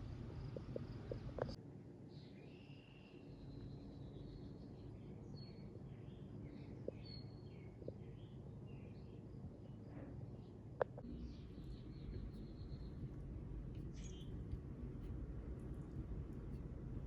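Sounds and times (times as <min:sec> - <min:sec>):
low background rumble: 0:00.0 - 0:01.6, 0:03.3 - 0:17.0.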